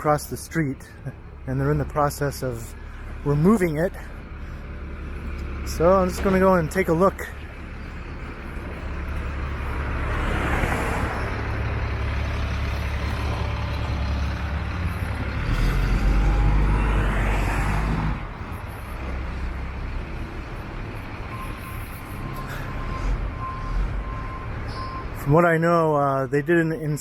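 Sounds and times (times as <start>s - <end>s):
heavy vehicle engine rumble: 0.0s - 27.0s
road traffic passing: 0.0s - 27.0s.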